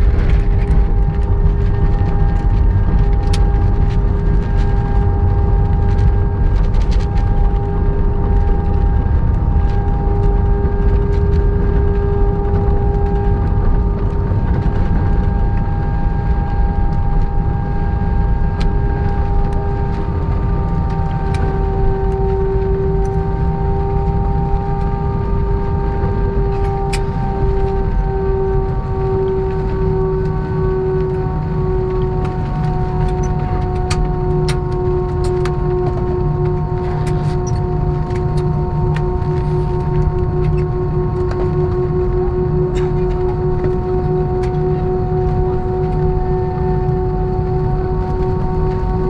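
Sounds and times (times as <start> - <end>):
airliner engine rumble: 0.0 - 49.0
engine whine: 0.0 - 49.0.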